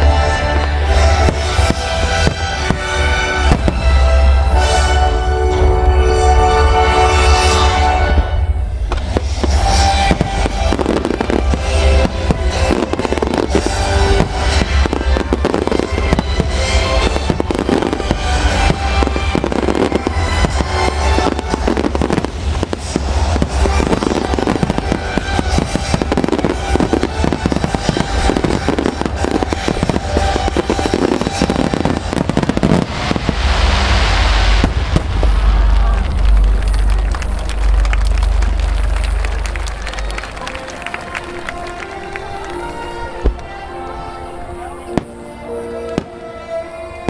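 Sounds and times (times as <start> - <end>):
firework crackling: 0.0 - 5.1, 7.2 - 44.1
fireworks bursting: 0.0 - 5.2, 7.1 - 44.2
music: 0.0 - 47.0.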